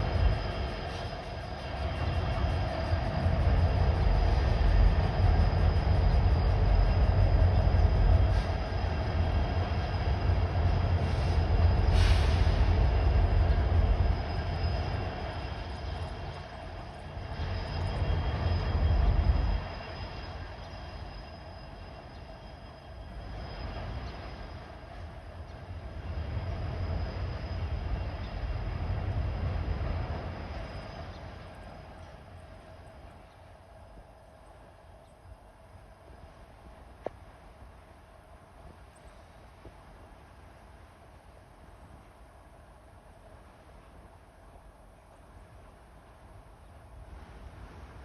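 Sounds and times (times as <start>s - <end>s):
faint ringing tones: 0.0s - 48.0s
freight train cars rumbling: 0.0s - 48.0s.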